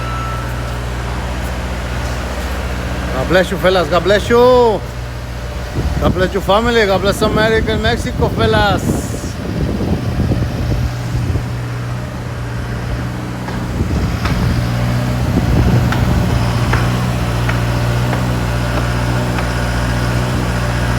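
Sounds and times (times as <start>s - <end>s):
engine humming: 0.0s - 20.9s.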